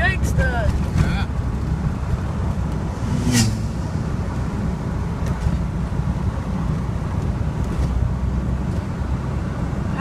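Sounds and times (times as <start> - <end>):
car engine drone: 0.0 - 10.0
road noise: 0.0 - 10.0.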